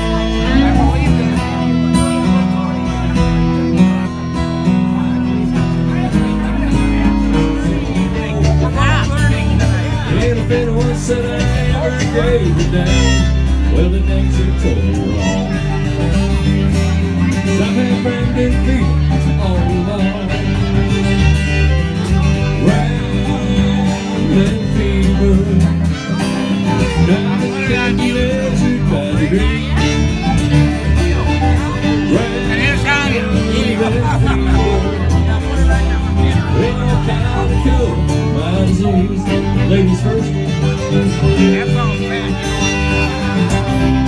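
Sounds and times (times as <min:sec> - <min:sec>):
acoustic guitar: 0:00.0 - 0:44.0
deep bass notes: 0:00.0 - 0:44.0
fiddle: 0:00.0 - 0:44.0
keyboard: 0:00.0 - 0:44.0.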